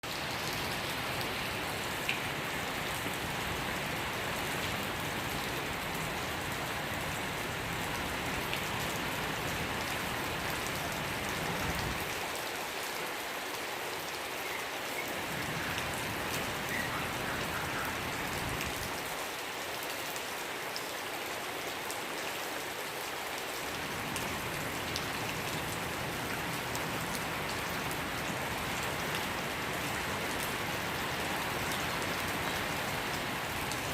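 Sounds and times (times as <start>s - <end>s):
rain pattering on surfaces: 0.0s - 33.9s.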